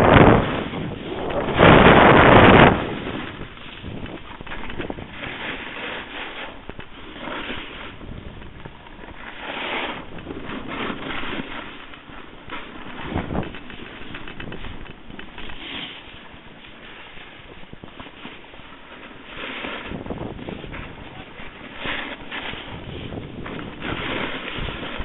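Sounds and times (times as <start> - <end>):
snowboard scraping over snow: 0.0 - 25.0
wind on microphone: 0.0 - 25.0.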